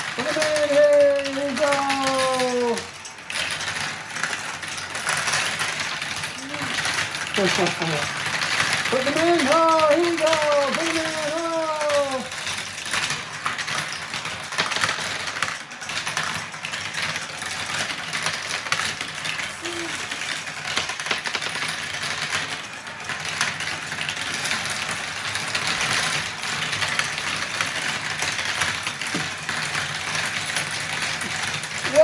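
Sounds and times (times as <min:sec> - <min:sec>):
marbles rattling through plastic run: 0:00.0 - 0:32.0.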